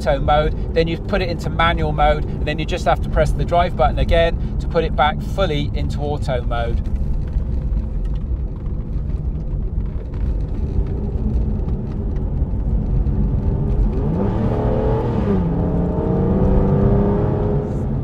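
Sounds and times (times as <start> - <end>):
car engine rumbling: 0.0 - 18.0
road noise: 0.0 - 18.0.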